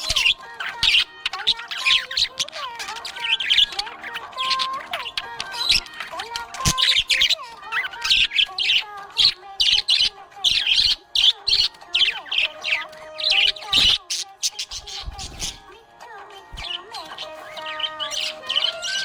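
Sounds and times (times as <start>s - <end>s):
budgerigar chirping: 0.0s - 15.7s, 16.4s - 19.0s.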